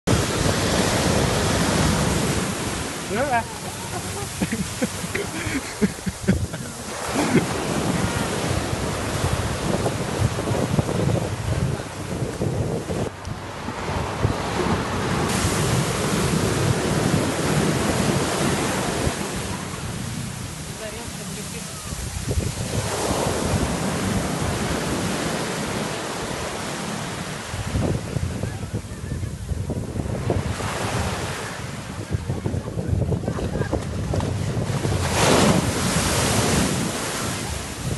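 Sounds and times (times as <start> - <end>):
wind buffeting microphone: 0.1 - 25.9, 27.3 - 37.9
small waves breaking on beach: 0.1 - 37.9.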